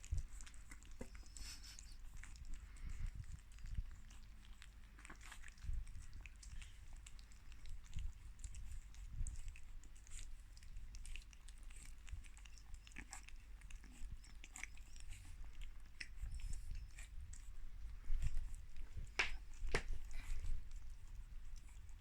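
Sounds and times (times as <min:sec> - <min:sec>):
puppies chewing and smacking: 0:00.0 - 0:22.0.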